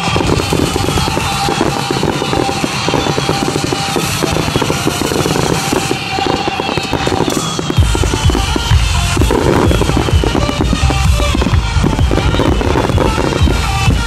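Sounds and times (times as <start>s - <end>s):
fireworks booms: 0.0s - 14.0s
fireworks crackling and popping: 0.0s - 14.0s
music: 0.0s - 14.0s.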